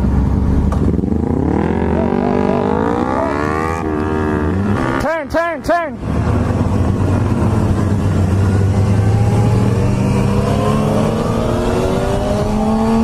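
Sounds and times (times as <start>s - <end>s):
motorcycle engine accelerating: 0.1s - 5.0s, 6.2s - 13.0s.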